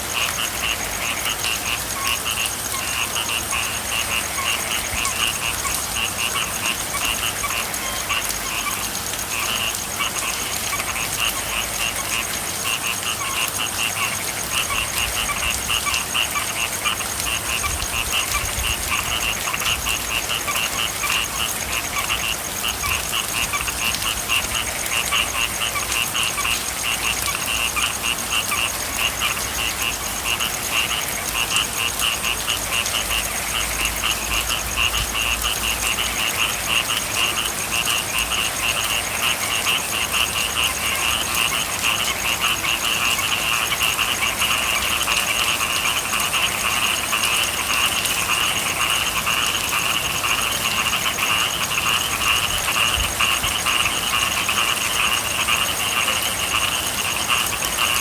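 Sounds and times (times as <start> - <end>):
chorus of frogs croaking: 0.0 - 58.0.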